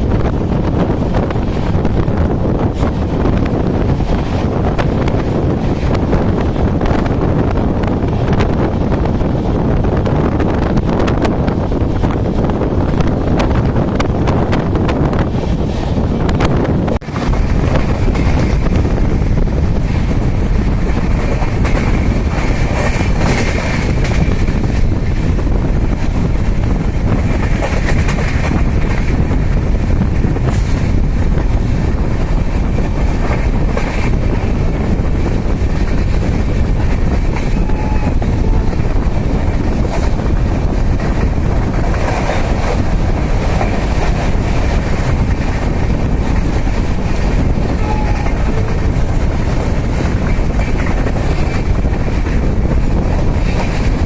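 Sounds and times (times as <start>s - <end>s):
clickety-clack of rail joints: 0.0s - 54.0s
loud train clatter: 0.0s - 54.0s
train wheels rumbling on rails: 0.0s - 54.0s.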